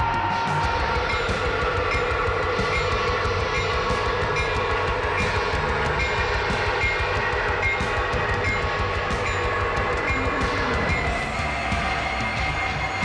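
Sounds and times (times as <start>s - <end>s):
model locomotive engine drone: 0.0s - 13.0s.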